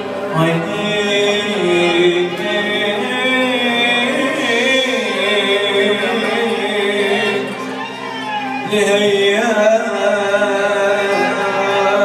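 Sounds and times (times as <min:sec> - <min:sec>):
violin: 0:00.0 - 0:12.0
man singing long held notes: 0:00.1 - 0:08.0, 0:08.6 - 0:12.0.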